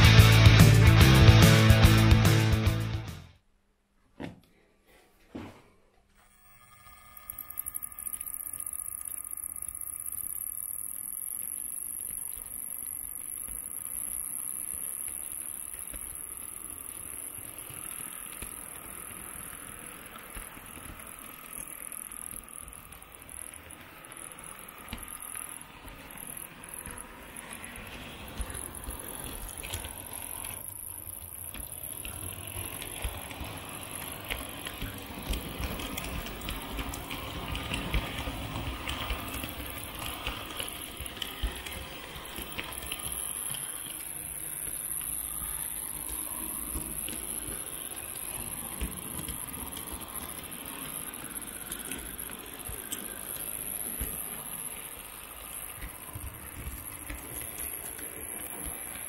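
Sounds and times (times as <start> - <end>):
faint high whine: 6.1 - 59.0
model train wheels rattling: 7.1 - 59.0.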